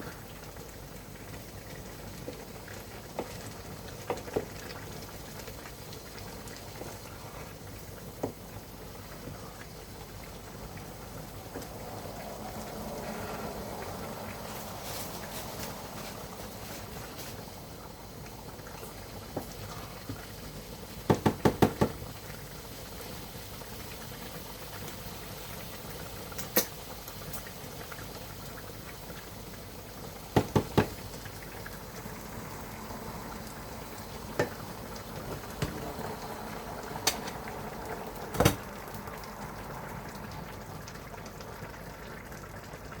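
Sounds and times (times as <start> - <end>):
liquid bubbling: 0.0 - 43.0.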